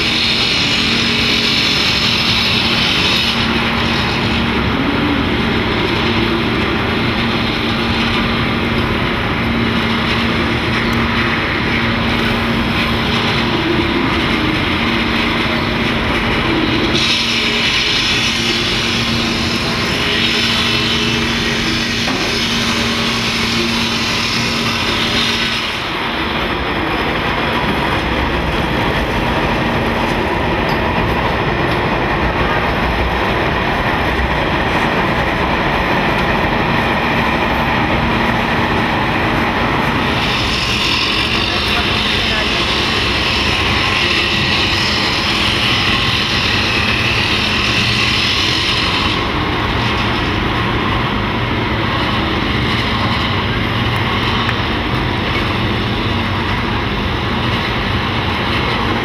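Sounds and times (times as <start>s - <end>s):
train on elevated track: 0.0s - 59.0s
urban traffic rumble: 0.0s - 59.0s.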